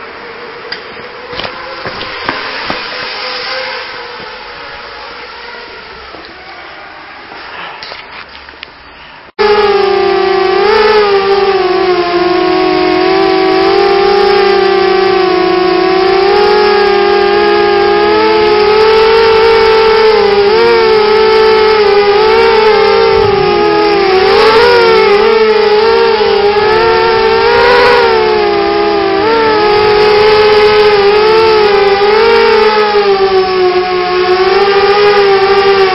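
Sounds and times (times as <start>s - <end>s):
quadcopter motors whining: 0.0s - 35.9s.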